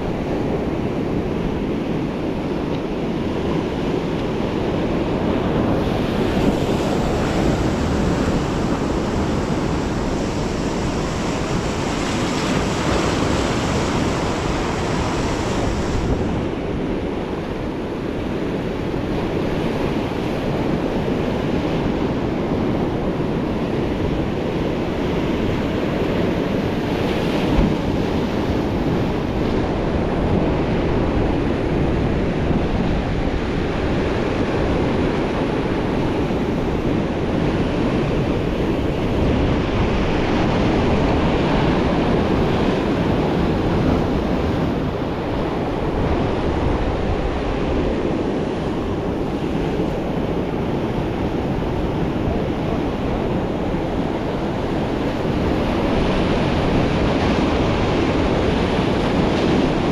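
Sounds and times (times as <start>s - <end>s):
sea surf breaking against rocks: 0.0s - 59.9s
wind buffeting microphone: 0.0s - 59.9s.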